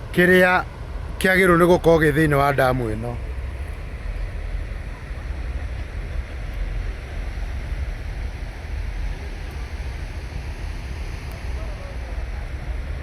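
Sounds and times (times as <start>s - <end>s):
water rushing roar: 0.0s - 13.0s
wind buffeting microphone: 0.0s - 13.0s.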